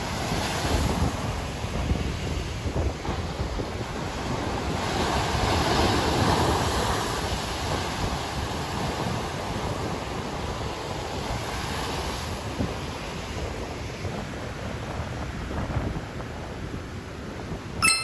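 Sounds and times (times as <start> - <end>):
waves breaking on quay: 0.0 - 16.2
wind rumbling on microphone: 0.0 - 17.8.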